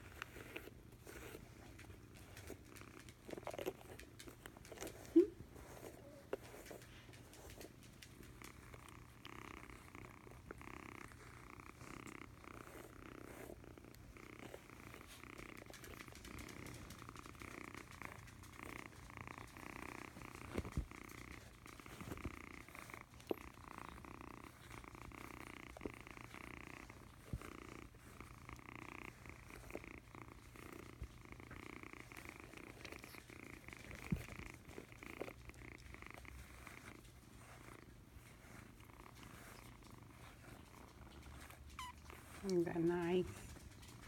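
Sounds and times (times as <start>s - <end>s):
kitten purring: 0.0s - 44.0s.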